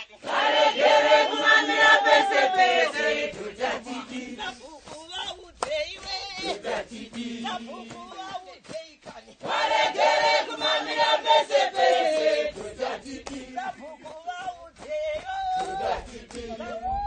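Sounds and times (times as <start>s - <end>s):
group of people singing: 0.0s - 17.0s.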